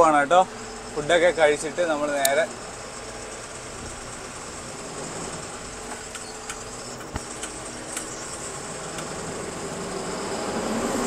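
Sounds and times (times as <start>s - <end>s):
lorry engine idling: 0.0s - 11.0s.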